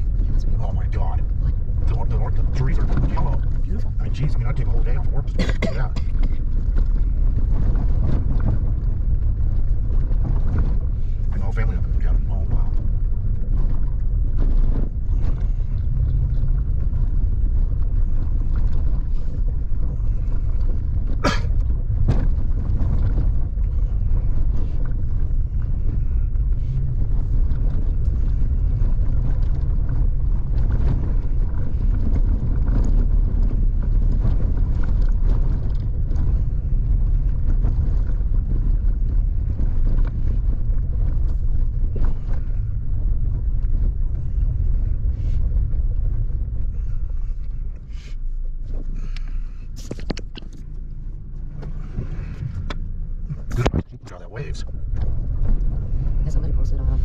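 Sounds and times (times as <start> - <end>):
vehicle engine and tyres rumbling: 0.0 - 57.0.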